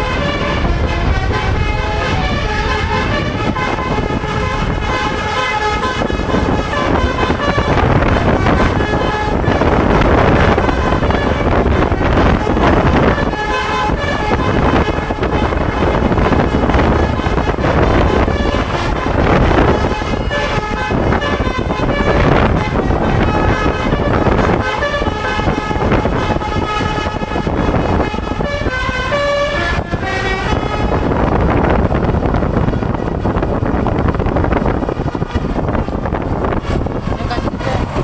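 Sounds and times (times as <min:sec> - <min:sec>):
bus horn playing melody: 0:00.0 - 0:37.5
dense vehicle noise: 0:00.0 - 0:38.0
loud rushing noise: 0:00.0 - 0:38.0.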